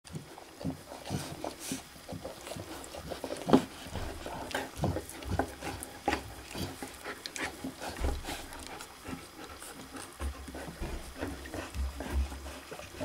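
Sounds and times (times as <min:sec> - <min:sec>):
dog licking and snuffling: 0:00.1 - 0:13.0.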